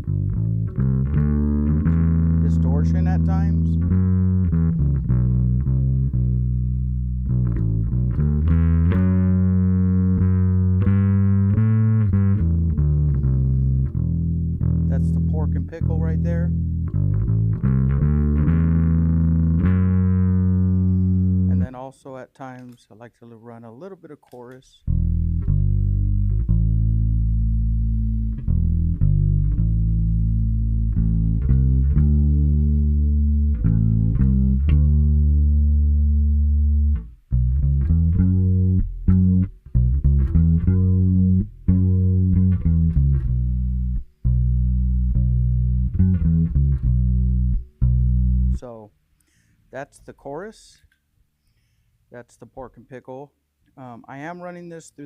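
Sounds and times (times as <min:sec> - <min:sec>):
distorted electric bass notes: 0:00.0 - 0:21.9, 0:24.8 - 0:48.9.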